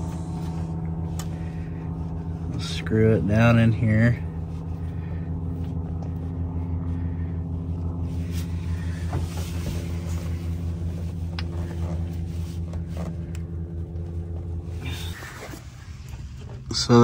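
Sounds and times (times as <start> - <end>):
motor humming: 0.0 - 16.9.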